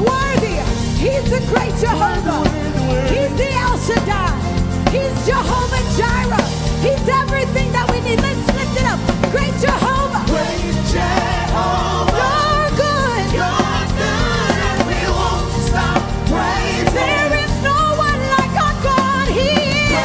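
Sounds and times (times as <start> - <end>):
band with bass and drums: 0.0 - 20.0
gospel singers: 0.0 - 20.0.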